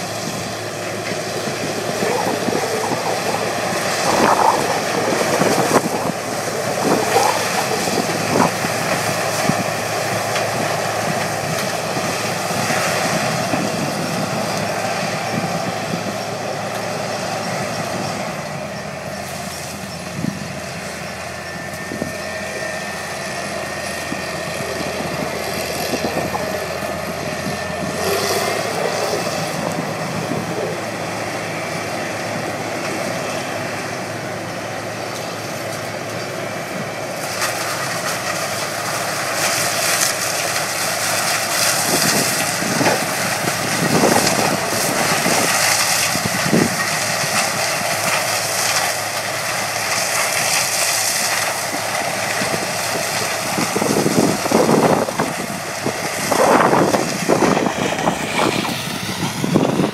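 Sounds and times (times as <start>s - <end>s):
harvester machinery din: 0.0s - 59.9s.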